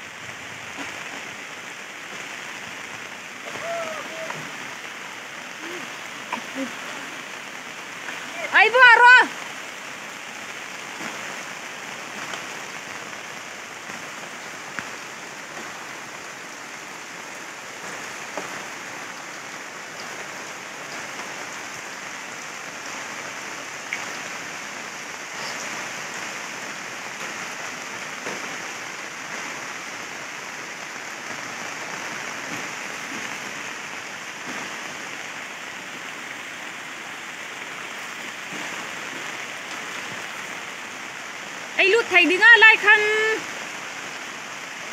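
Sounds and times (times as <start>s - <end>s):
rain falling on water: 0.0s - 44.9s.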